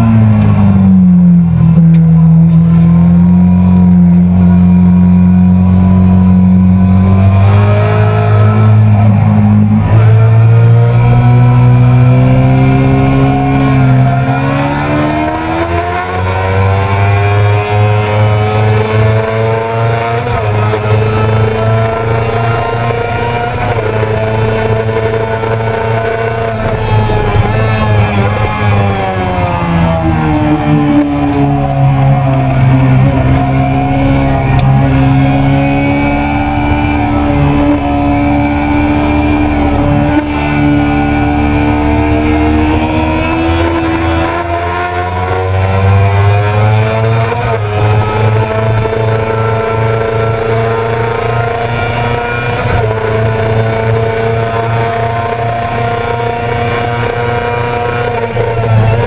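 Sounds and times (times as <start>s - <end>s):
motorcycle engine revving high: 0.0s - 59.0s.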